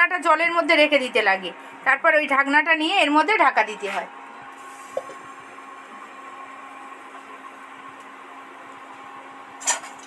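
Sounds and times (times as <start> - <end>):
gas burner hissing: 0.0 - 10.0.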